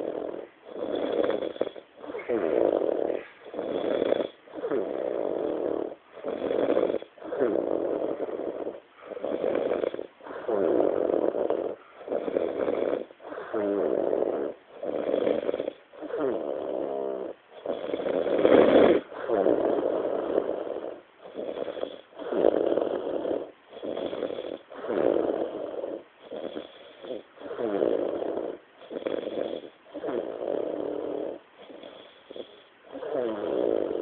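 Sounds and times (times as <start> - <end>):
person snoring with rasping flutter: 0.0 - 34.0.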